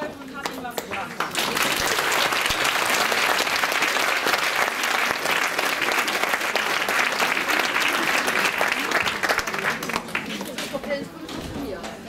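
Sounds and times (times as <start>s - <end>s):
audience applauding: 0.8s - 10.6s.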